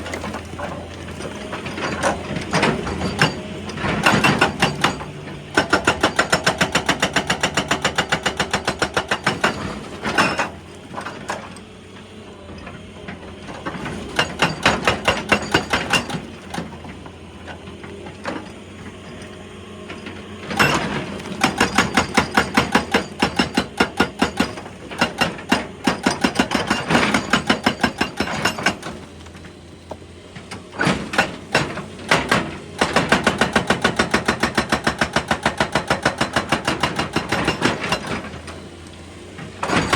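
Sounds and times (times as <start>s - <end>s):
hydraulic breaker hammering rock: 0.0s - 11.5s, 13.6s - 38.7s, 39.4s - 39.9s.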